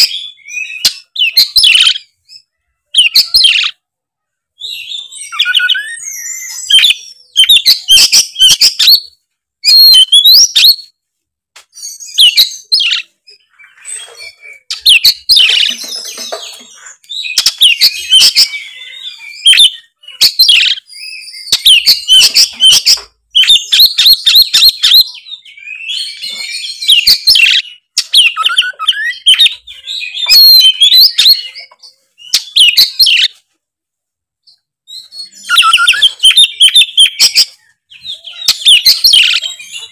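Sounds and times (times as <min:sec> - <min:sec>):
songbird singing: 0:00.0 - 0:11.0, 0:11.6 - 0:33.4, 0:34.4 - 0:39.9.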